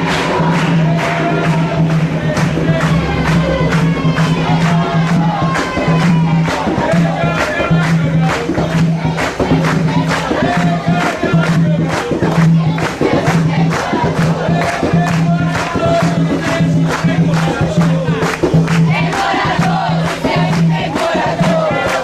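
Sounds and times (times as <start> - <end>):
group of voices chanting: 0.0 - 22.0
steady drum strokes: 0.0 - 22.0.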